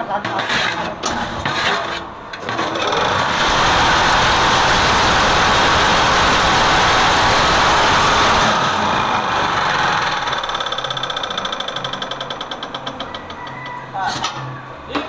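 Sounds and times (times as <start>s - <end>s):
hydraulic press motor running: 1.0s - 13.4s.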